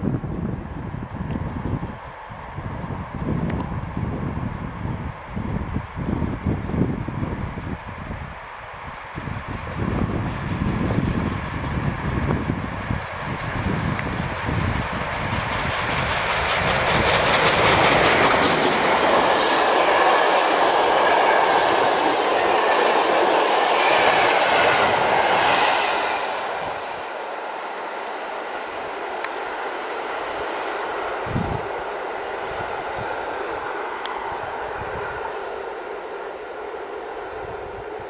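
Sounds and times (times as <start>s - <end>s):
train rumble and rushing: 0.0s - 38.0s.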